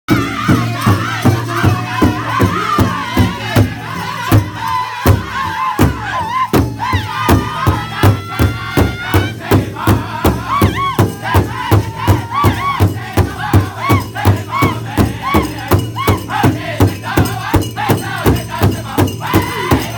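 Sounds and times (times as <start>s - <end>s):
men singing high-pitched: 0.1s - 19.9s
powwow drum beat: 0.1s - 19.9s.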